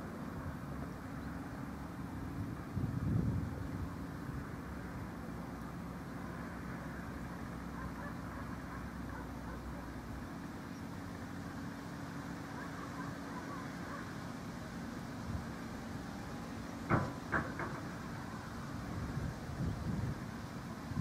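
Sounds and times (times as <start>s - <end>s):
distant machinery hum: 0.0s - 21.0s.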